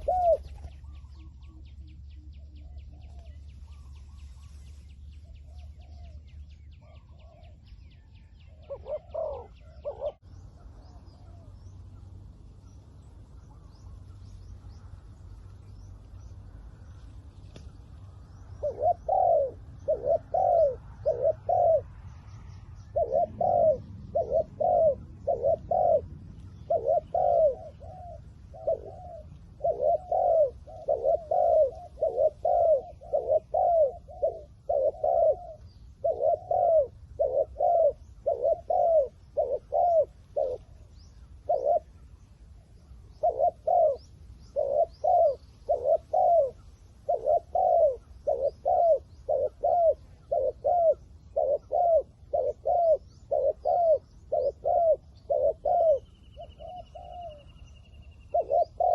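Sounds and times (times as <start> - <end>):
doves cooing: 0.0 - 58.9.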